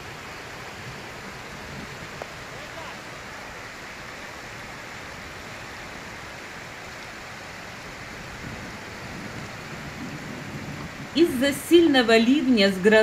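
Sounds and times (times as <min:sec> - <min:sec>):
heavy rain: 0:00.0 - 0:13.0
rushing floodwater: 0:00.0 - 0:13.0.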